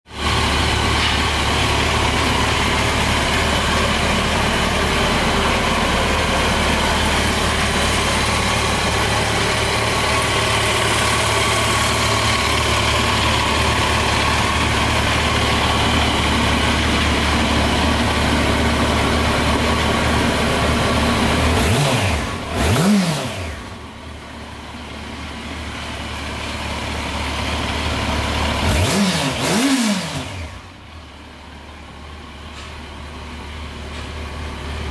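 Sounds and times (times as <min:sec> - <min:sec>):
motorcycle engine idling and revving: 0:00.1 - 0:34.9.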